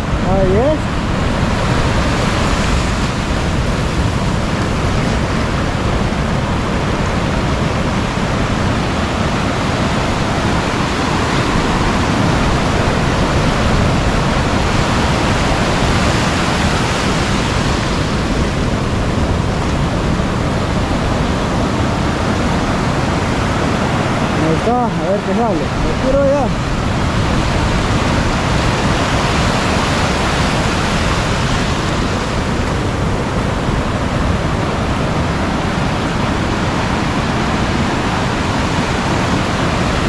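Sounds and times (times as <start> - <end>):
ocean surf breaking: 0.0 - 40.0.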